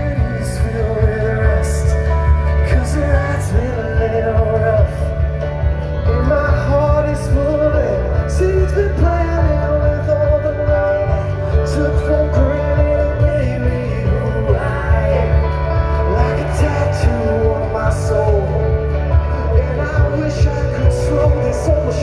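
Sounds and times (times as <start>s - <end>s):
live rock band playing: 0.0s - 22.0s
person singing: 0.0s - 22.0s.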